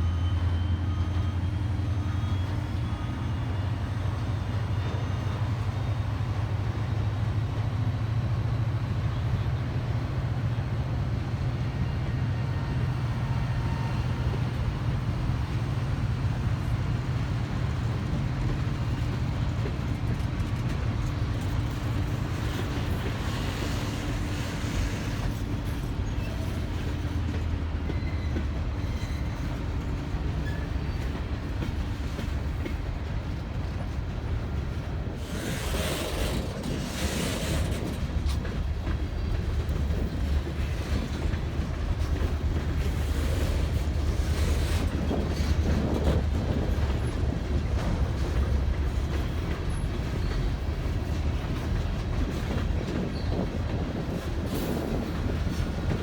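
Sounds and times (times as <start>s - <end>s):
train wheels clattering over rails: 4.1s - 56.0s.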